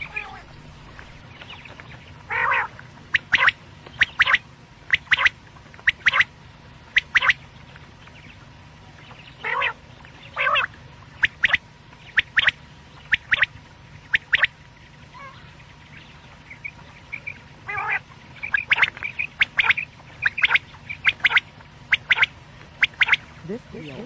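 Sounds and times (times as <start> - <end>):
quail calling: 0.0 - 7.5, 9.0 - 24.0.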